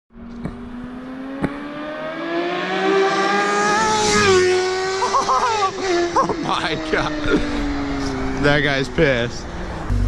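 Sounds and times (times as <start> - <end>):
motorcycle engine revving high: 0.4 - 10.0.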